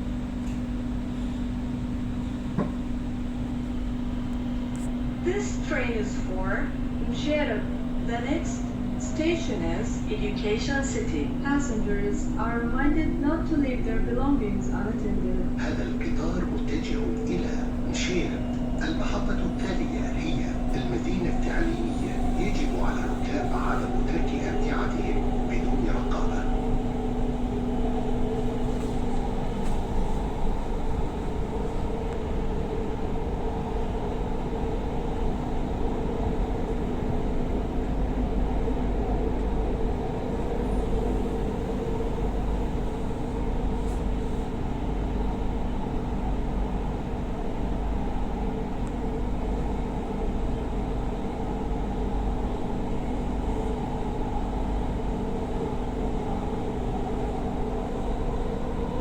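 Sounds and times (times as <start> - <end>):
metro train rumble inside carriage: 0.0 - 59.0.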